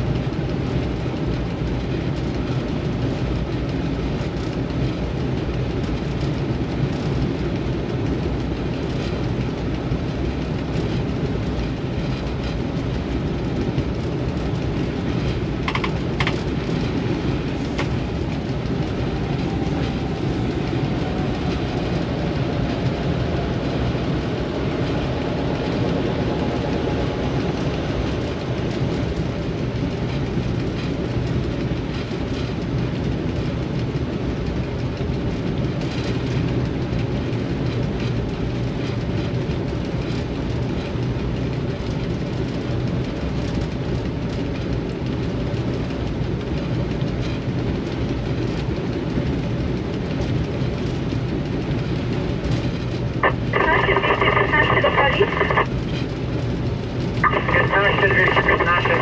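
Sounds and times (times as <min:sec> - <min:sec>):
diesel locomotive engine drone: 0:00.0 - 0:59.0
wheel and rail noise: 0:00.1 - 0:59.0.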